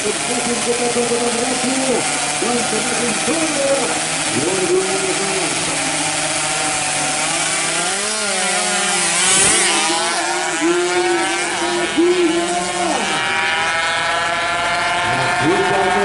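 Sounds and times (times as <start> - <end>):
motorcycles revving hard: 0.0 - 16.0.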